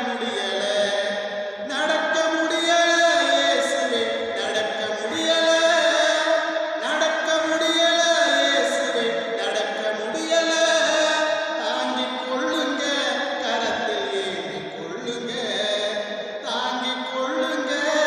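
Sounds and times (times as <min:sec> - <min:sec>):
man singing a hymn: 0:00.0 - 0:18.0.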